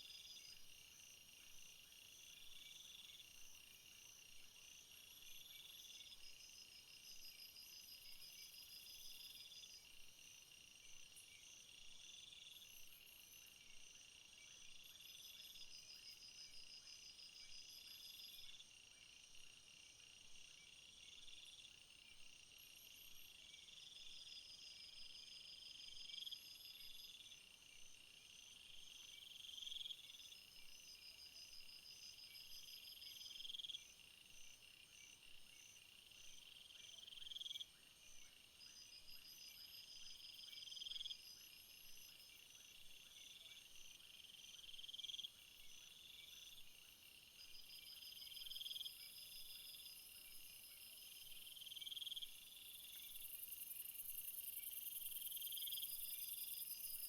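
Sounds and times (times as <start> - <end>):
high pulsing insect trills: 0.0 - 57.0
insects chirping in a field: 0.0 - 57.0.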